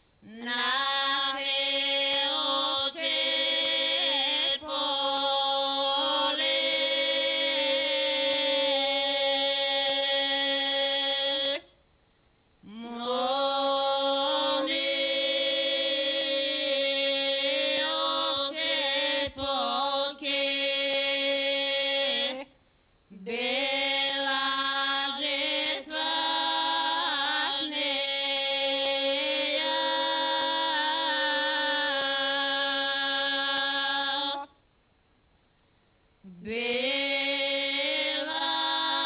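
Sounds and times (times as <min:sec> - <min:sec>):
voices singing unaccompanied: 0:00.2 - 0:11.7, 0:12.6 - 0:34.6, 0:36.2 - 0:39.0.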